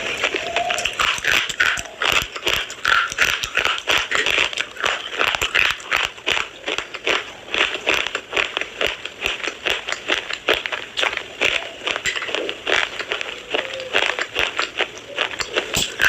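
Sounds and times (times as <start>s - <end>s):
slate pencils crunching: 0.0s - 16.0s.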